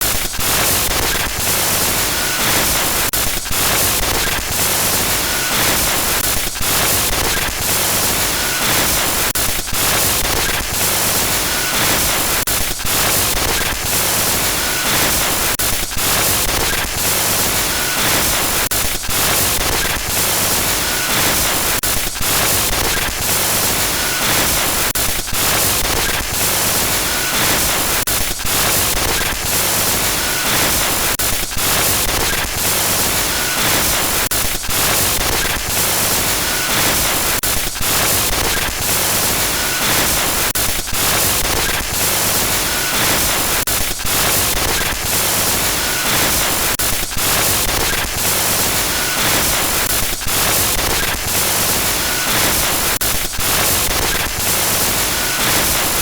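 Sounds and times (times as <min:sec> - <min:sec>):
harsh static hiss: 0:00.0 - 0:56.0.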